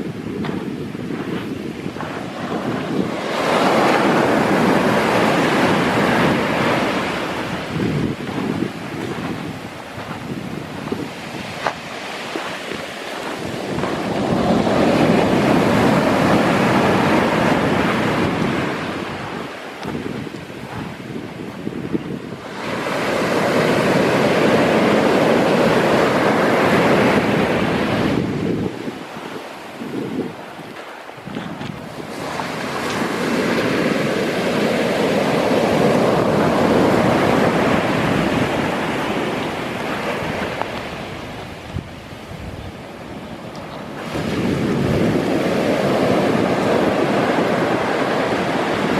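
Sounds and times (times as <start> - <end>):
sea waves breaking on shore: 0.0 - 48.9
wind buffeting microphone: 0.0 - 48.9.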